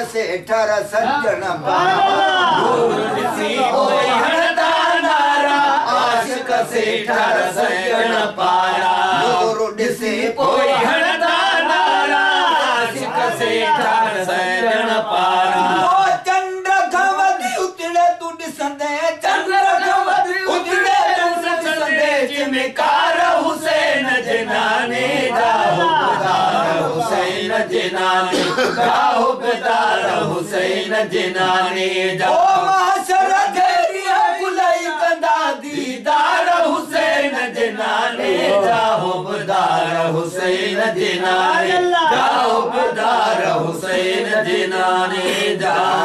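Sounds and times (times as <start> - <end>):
men chanting devotional song: 0.0 - 46.0
men singing together: 1.7 - 17.8, 19.0 - 46.0.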